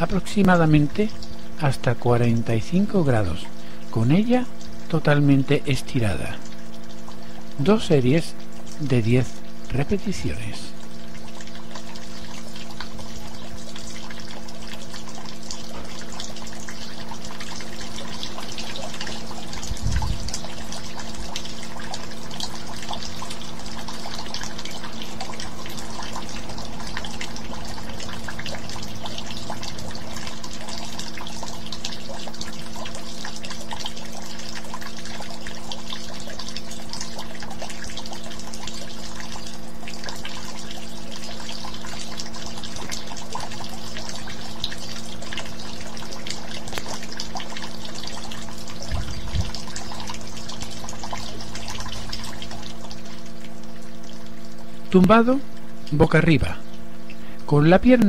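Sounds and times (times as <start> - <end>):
low steady hum: 0.0 - 58.0
trickling water: 0.0 - 58.0.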